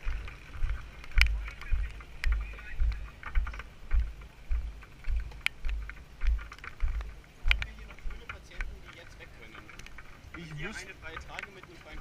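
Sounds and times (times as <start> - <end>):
footsteps thumping: 0.0 - 12.0.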